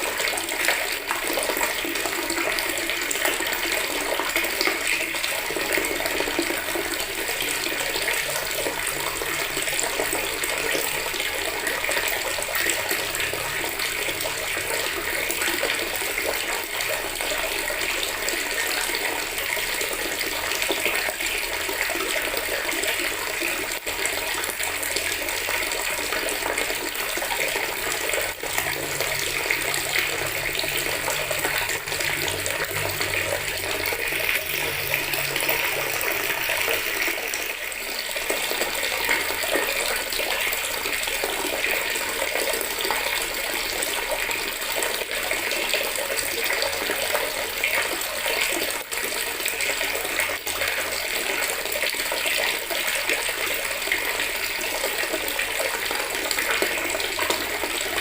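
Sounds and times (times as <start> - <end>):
tap water running into bucket: 0.0 - 58.0.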